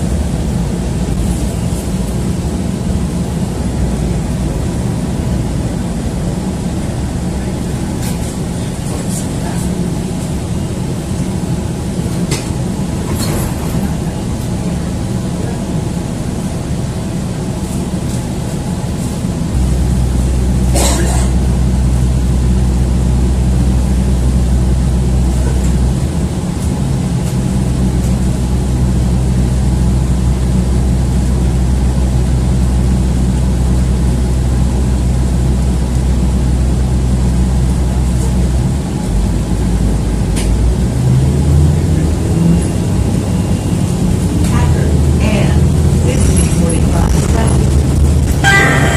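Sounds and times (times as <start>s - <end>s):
bus engine droning: 0.0s - 48.9s.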